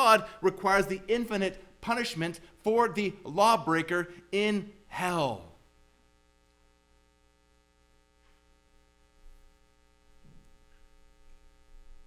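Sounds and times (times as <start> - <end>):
faint mains hum: 0.0 - 12.0.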